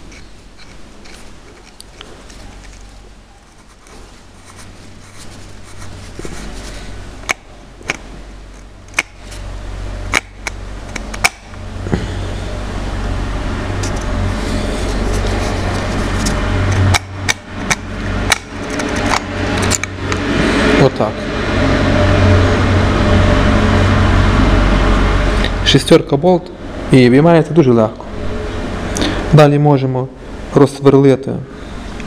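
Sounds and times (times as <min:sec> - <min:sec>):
low hum: 0:00.0 - 0:30.6.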